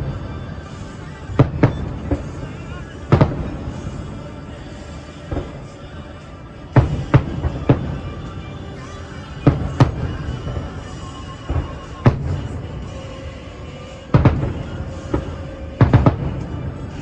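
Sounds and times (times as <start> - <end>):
distant fireworks booming: 0.0 - 6.0, 6.7 - 13.0, 14.1 - 17.0
fireworks show music: 0.0 - 17.0.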